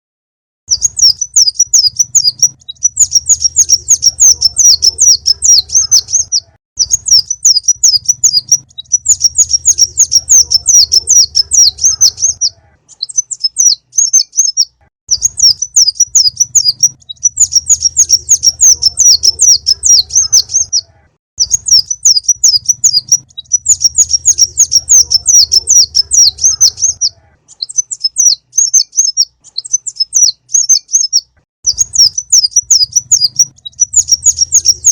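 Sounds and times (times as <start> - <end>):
bird twittering chirps: 0.7 - 34.9.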